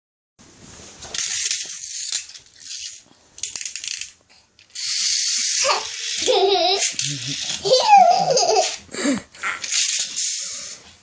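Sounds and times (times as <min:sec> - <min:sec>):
toy car spring motor whirring: 0:01.1 - 0:08.8, 0:09.4 - 0:10.9.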